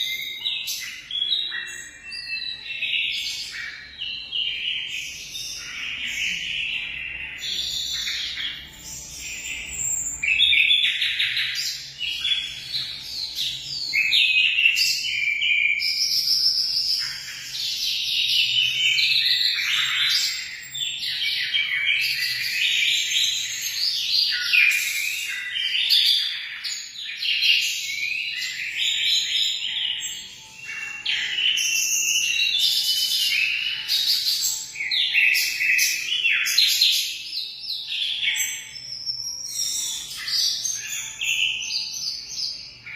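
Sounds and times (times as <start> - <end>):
flock of birds chirping: 0.0 - 42.9.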